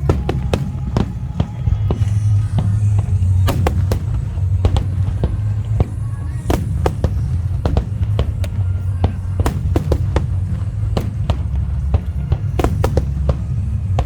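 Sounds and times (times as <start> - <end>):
deep rumble: 0.0 - 14.0
fireworks bangs and crackles: 0.0 - 14.0.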